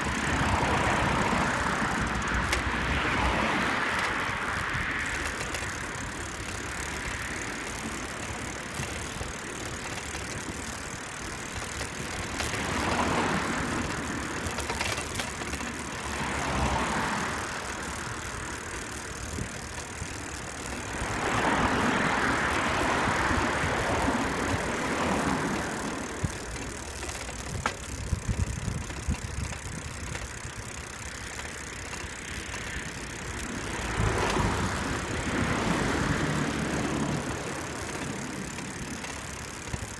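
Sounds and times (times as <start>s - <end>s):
bicycle rattles: 0.0s - 39.9s
road traffic passing: 0.0s - 39.9s
rushing noise of riding: 0.0s - 39.9s.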